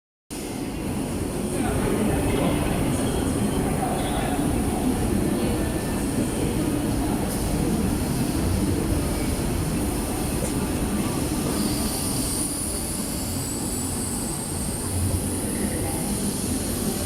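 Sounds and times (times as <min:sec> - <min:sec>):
industrial machines running: 0:00.3 - 0:17.0
faint high whine: 0:00.4 - 0:17.0.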